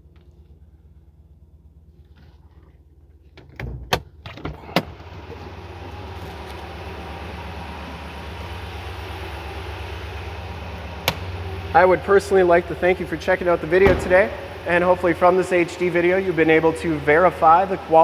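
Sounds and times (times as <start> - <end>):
car engine idling: 0.0 - 3.3, 4.6 - 18.0.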